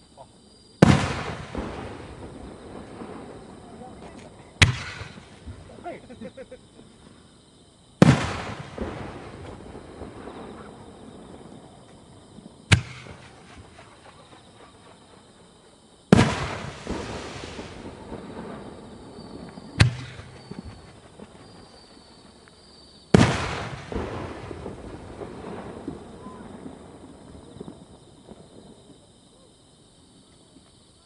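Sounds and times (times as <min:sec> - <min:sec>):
firework shells booming: 0:00.8 - 0:07.2, 0:08.0 - 0:29.1.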